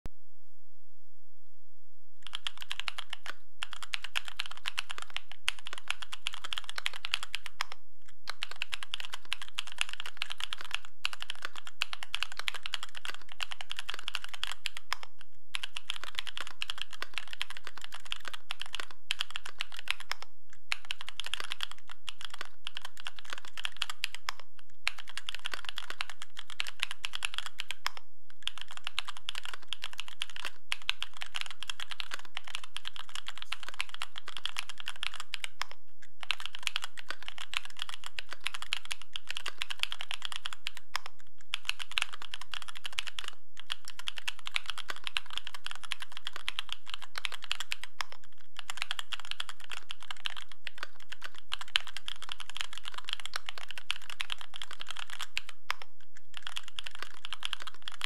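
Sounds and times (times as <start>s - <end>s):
mechanical keyboard typing: 2.2s - 58.0s.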